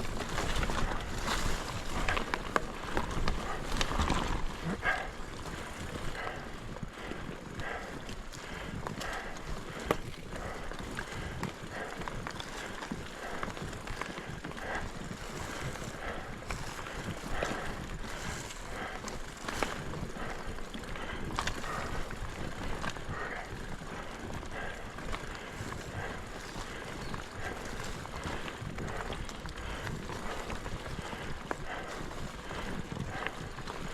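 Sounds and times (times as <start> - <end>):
bike rattling over bumps: 0.0 - 33.9
bike tyres on dirt trail: 0.0 - 33.9.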